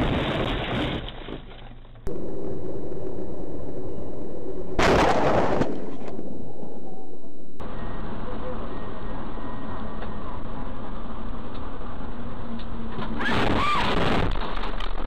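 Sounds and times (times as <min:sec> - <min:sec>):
vehicle crash: 0:00.0 - 0:06.3, 0:07.6 - 0:15.0
car and road noise: 0:00.0 - 0:15.0.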